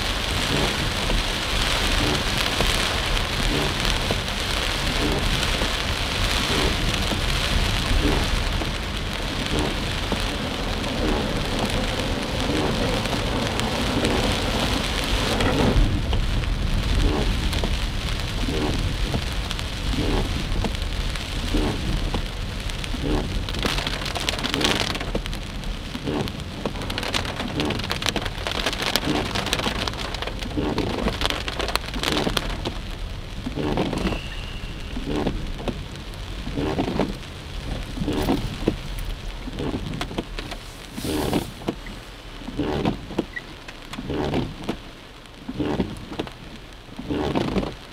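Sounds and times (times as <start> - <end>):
car driving on wet road: 0.0 - 47.9
rain pelting car roof: 0.0 - 47.9.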